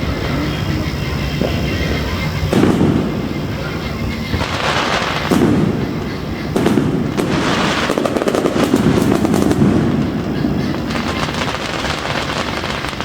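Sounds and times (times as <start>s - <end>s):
low rumble of firework bursts: 0.0s - 13.0s
fireworks crackling pops: 1.3s - 13.0s.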